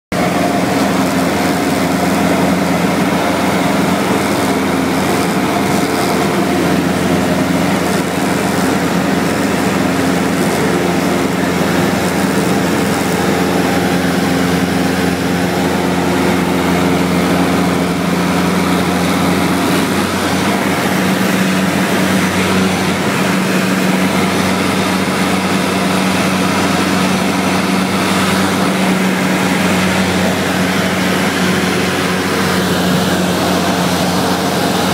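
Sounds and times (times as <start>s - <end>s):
aircraft engine and propeller droning: 0.1s - 34.9s.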